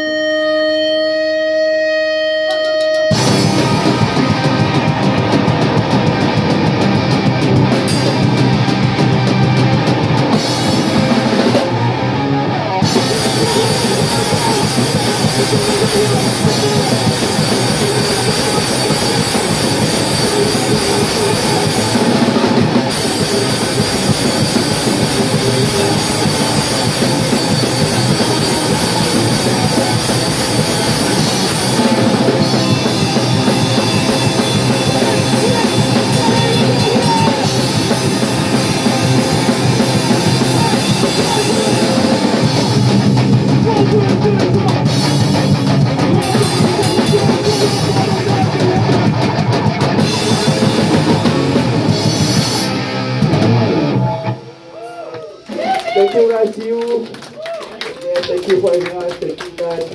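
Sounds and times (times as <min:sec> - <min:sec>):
distorted electric guitar: 0:00.0 - 0:55.6
fast dense drumming: 0:03.1 - 0:12.1, 0:12.8 - 0:53.9.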